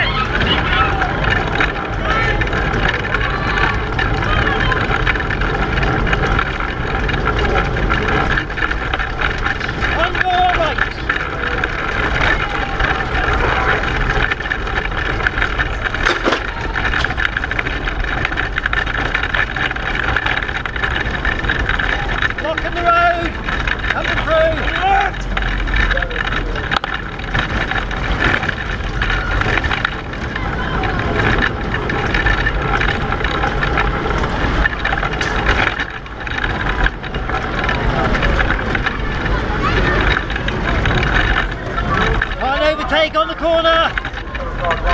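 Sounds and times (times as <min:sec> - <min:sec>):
pedal car rattling clatter: 0:00.0 - 0:44.9
wheels rumbling: 0:00.0 - 0:44.9.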